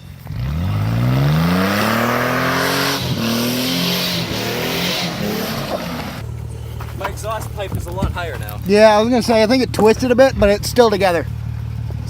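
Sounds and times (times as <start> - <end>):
pickup engine revving hard: 0.0 - 12.0.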